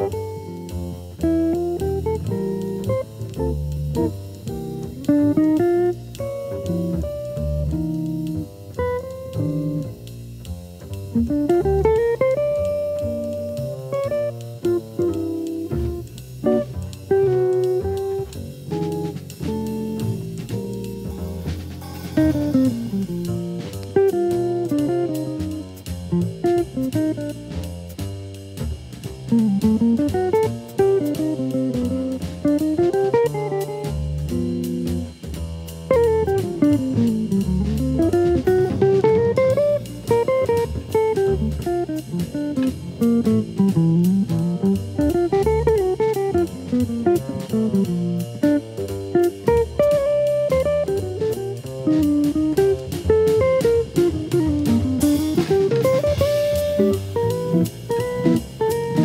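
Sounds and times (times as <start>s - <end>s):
bass line: 0.0s - 59.0s
drums keeping a beat: 0.0s - 59.0s
jazz guitar: 0.0s - 59.0s.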